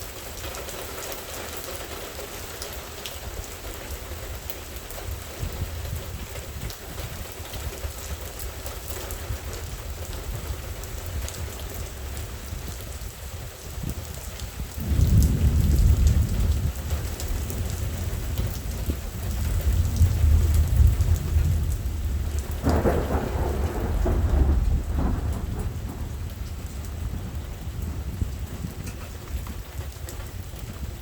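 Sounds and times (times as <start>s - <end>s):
steady rain: 0.0s - 31.0s
thunder rumbling and crackling: 3.1s - 31.0s.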